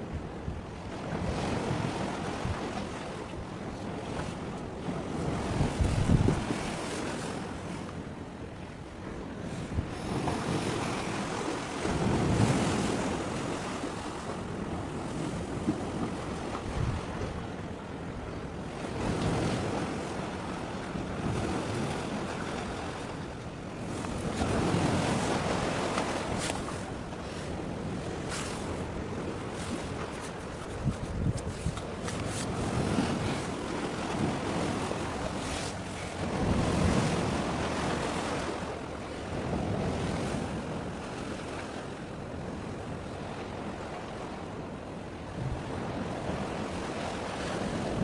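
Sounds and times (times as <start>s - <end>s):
water washing at shoreline: 0.0s - 48.0s
wind buffeting microphone: 0.0s - 48.0s.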